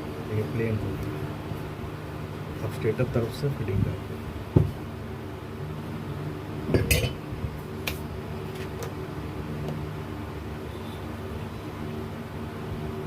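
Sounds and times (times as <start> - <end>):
table fan humming: 0.0 - 13.0.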